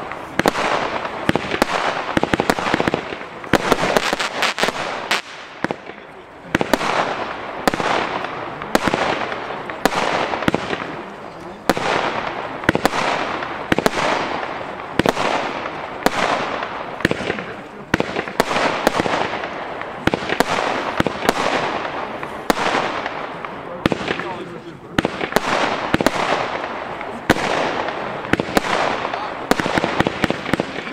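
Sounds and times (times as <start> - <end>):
firework bangs with hissing spray: 0.0 - 30.9.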